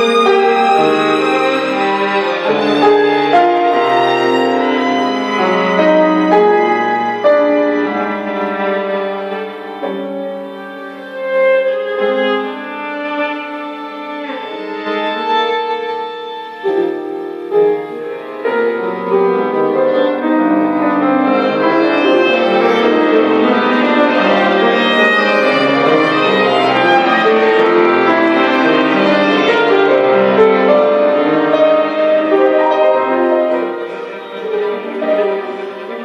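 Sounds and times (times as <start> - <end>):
bowed strings: 0.0 - 36.0
piano: 0.0 - 36.0.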